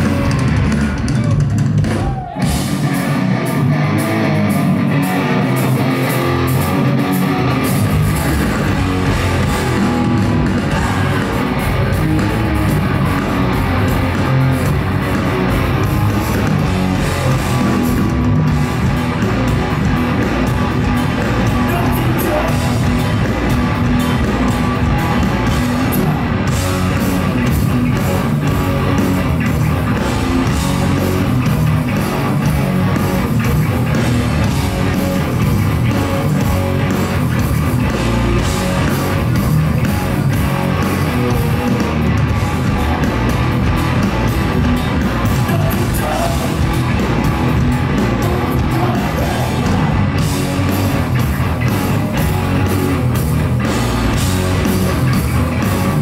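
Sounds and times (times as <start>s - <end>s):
bass guitar: 0.0s - 56.0s
distorted electric guitars: 0.0s - 56.0s
drum kit: 0.0s - 56.0s.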